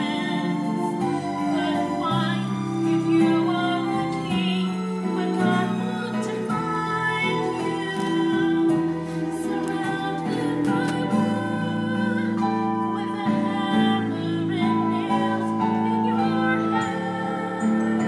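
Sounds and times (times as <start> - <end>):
soft instrumental accompaniment: 0.0 - 18.0
woman singing gently: 0.0 - 18.0.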